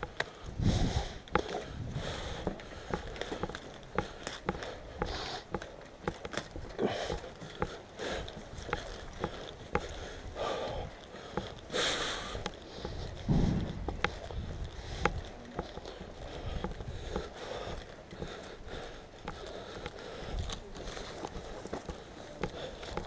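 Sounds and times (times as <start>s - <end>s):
person breathing close to microphone: 0.3s - 5.6s, 6.8s - 15.3s, 16.0s - 23.0s.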